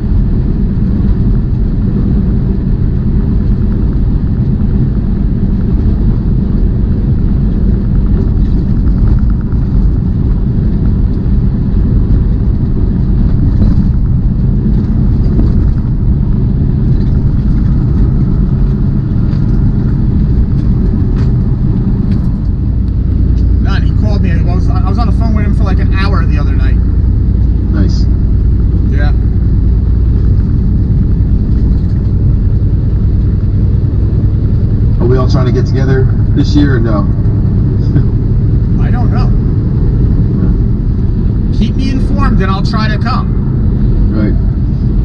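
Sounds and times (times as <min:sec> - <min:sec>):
truck engine and road noise: 0:00.0 - 0:45.0.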